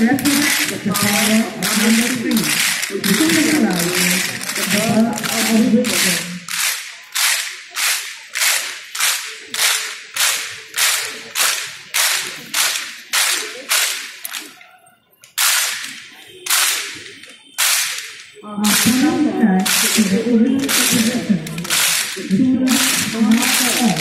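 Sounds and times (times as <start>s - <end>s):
group clapping in unison: 0.0s - 14.6s, 15.2s - 24.0s.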